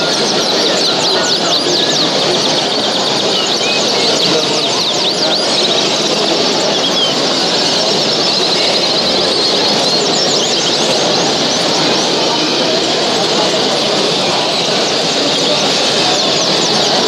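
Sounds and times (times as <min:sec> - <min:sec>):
birds chirping and singing: 0:00.0 - 0:17.0
hall noise: 0:00.0 - 0:17.0.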